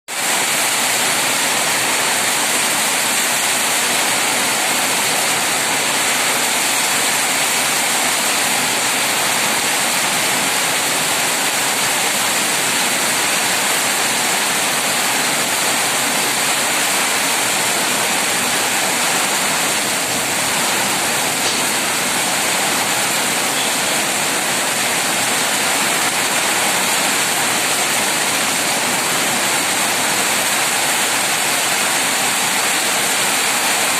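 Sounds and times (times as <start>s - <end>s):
heavy rain with strong wind: 0.1s - 33.9s.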